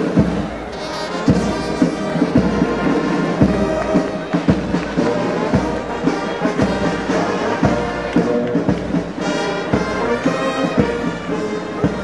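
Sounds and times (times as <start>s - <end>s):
brass band playing march music: 0.0s - 12.0s
steady drum beat: 0.0s - 12.0s.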